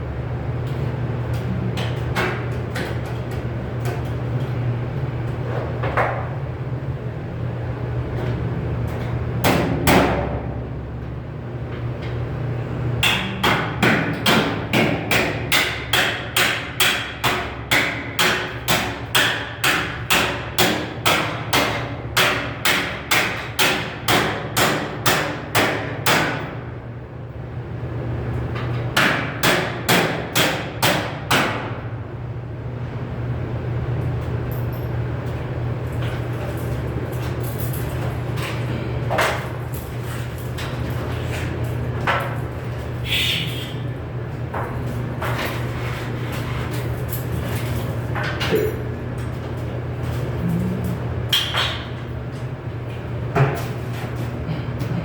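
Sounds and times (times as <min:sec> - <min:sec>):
steady low hum: 0:00.0 - 0:23.2, 0:23.8 - 0:55.0.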